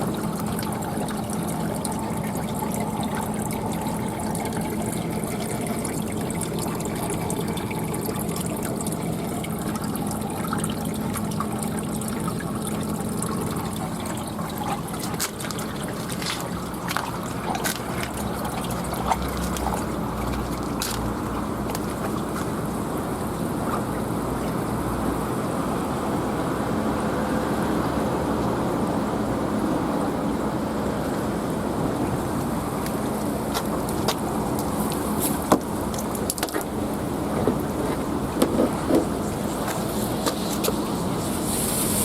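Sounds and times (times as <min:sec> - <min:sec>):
low machine hum: 0:00.0 - 0:42.0
water trickling and splashing: 0:00.0 - 0:42.0.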